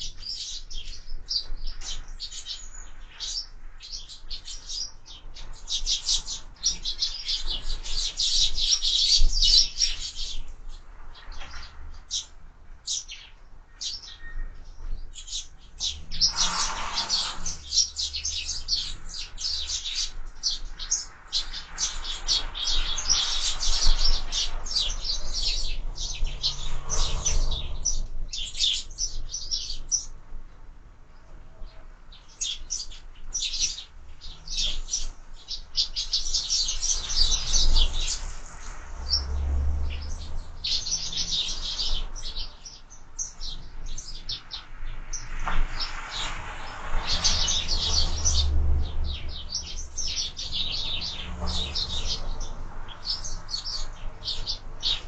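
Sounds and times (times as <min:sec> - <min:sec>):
sparrows chirping: 0:00.0 - 0:30.4, 0:31.1 - 0:55.0.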